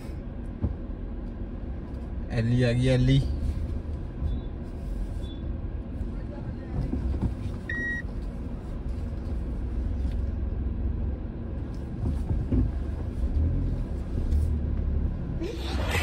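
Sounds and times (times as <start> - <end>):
car rumbling inside cabin: 0.0 - 16.0.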